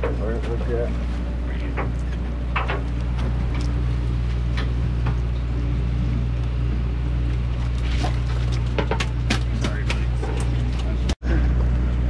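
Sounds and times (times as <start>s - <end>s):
boat machinery humming: 0.0s - 12.0s.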